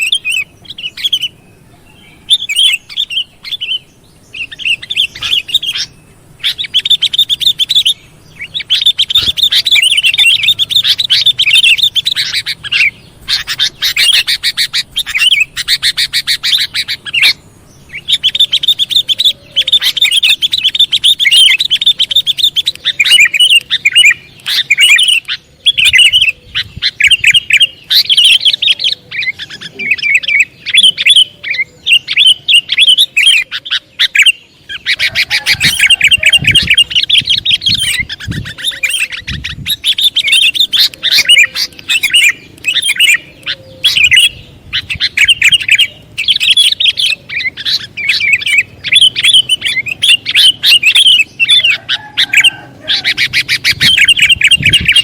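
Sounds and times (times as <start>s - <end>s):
bulbul chattering calls: 0.0s - 55.0s.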